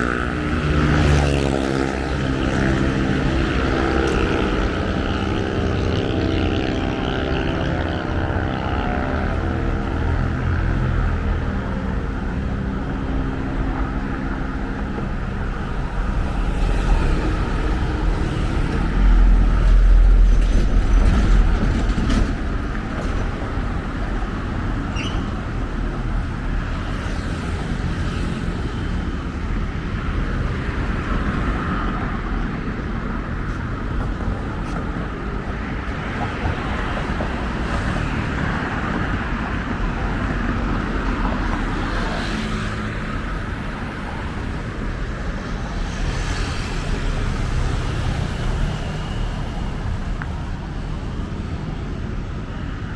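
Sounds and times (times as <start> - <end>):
heavy vehicle rumbling past: 0.0 - 51.5
road traffic noise: 0.0 - 52.9.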